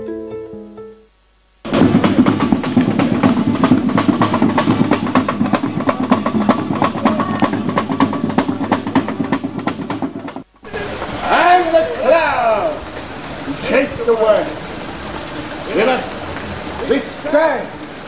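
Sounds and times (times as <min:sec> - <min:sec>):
street band drumming fast: 0:01.6 - 0:18.0.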